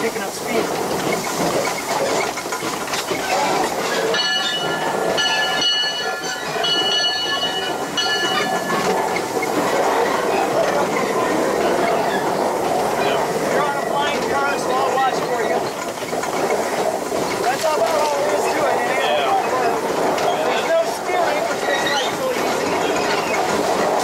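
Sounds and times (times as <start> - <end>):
steam locomotive clatter: 0.0 - 24.0.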